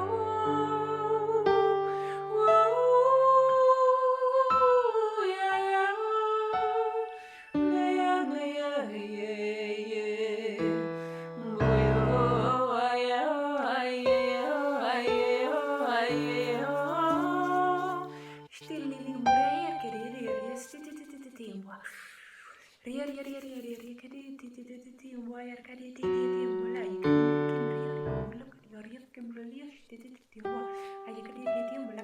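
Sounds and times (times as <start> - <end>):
woman singing wordless melody: 0.0 - 32.0.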